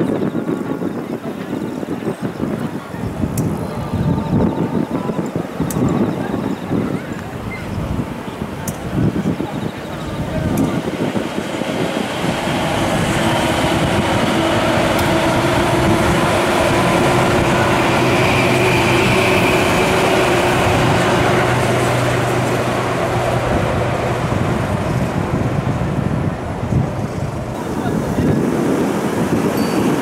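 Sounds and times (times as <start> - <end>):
train wheels running on rails: 0.4 - 30.0.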